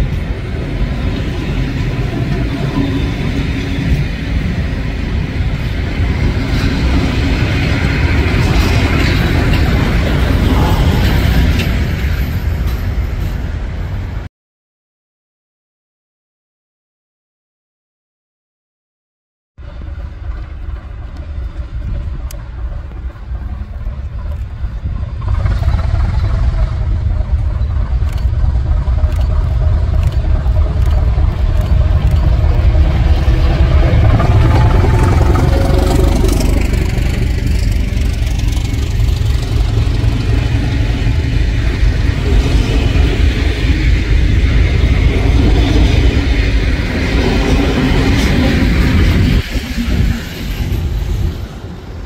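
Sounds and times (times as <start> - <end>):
diesel locomotive engine rumbling: 0.0 - 14.3, 19.6 - 52.0
train coaches wheel noise: 0.0 - 14.3, 19.6 - 52.0.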